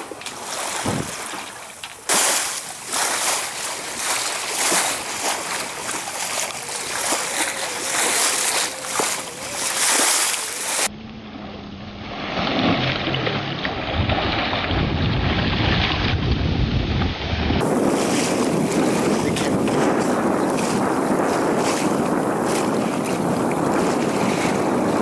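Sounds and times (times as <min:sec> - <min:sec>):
wind buffeting microphone: 0:00.0 - 0:01.4, 0:02.8 - 0:10.9, 0:13.6 - 0:25.0
water rushing along hull: 0:00.0 - 0:25.0.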